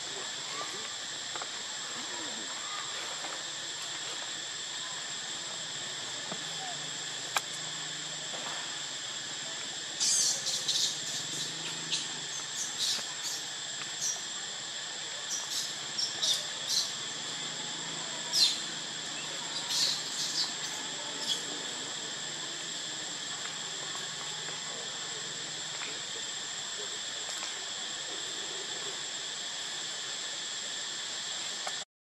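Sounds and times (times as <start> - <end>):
high-pitched insect drone: 0.0 - 31.8.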